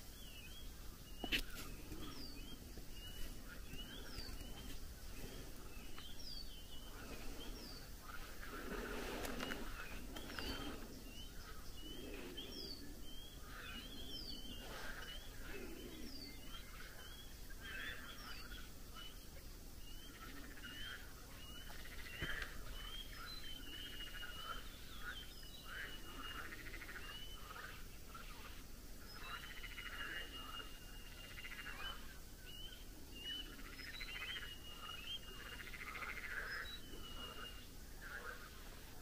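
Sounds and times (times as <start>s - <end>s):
birds singing: 0.0s - 39.0s.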